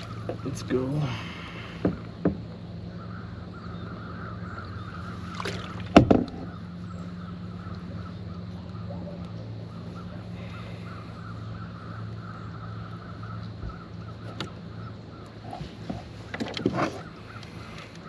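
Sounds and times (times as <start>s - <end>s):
crows cawing: 0.0s - 18.0s.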